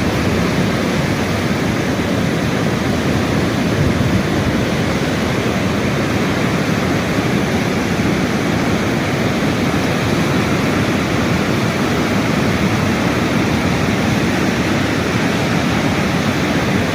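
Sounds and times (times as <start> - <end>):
water rushing: 0.0 - 16.9.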